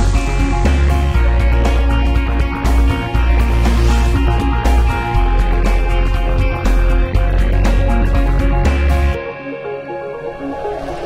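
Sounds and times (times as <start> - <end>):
heavy bass: 0.0 - 9.2
music with repeated pitched notes: 0.0 - 11.0.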